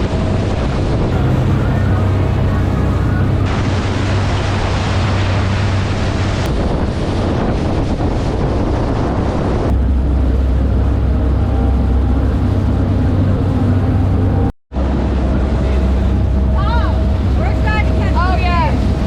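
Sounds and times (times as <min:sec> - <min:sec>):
boat engine drone: 0:00.0 - 0:19.0
water rushing past hull: 0:00.0 - 0:19.0
wind on microphone: 0:00.0 - 0:19.0.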